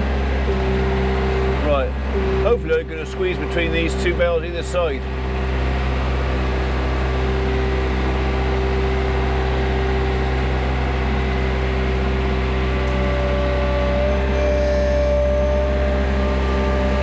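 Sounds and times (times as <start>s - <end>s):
farm machine engine running: 0.0s - 17.0s
higher whine: 0.0s - 17.0s
steady whine: 0.0s - 17.0s.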